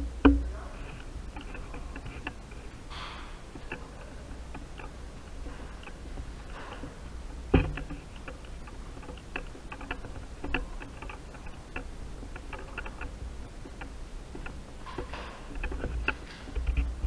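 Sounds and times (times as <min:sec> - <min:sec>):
light clicks and taps: 0:00.0 - 0:17.0.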